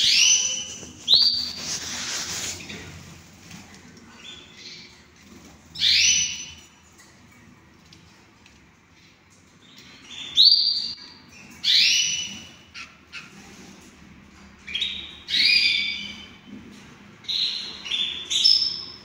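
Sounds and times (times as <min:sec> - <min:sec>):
canaries singing: 0:00.0 - 0:19.0.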